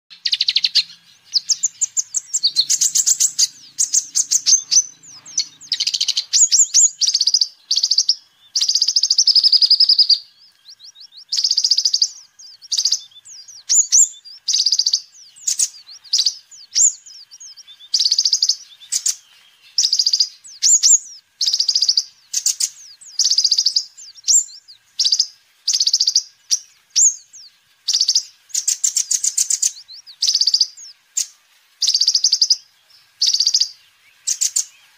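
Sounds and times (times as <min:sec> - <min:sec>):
bird singing high chirps and trills: 0:00.1 - 0:34.9.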